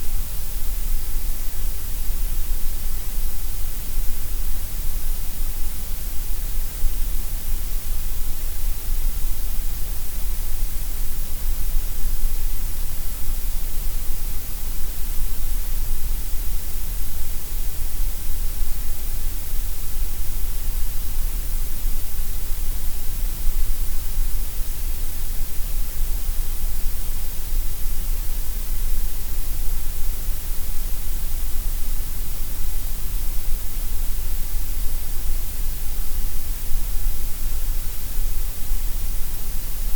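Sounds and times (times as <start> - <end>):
gray noise hiss: 0.0 - 39.9.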